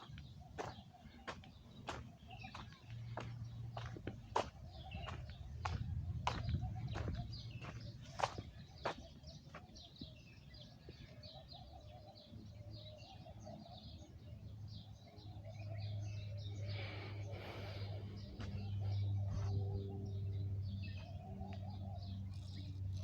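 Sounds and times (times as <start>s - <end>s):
steady low hum: 0.0s - 13.2s, 14.0s - 23.0s
small birds chirping: 0.0s - 23.0s.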